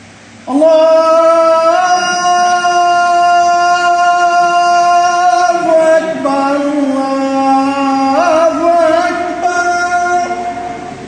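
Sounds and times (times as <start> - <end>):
man chanting call to prayer: 0.4 - 11.0.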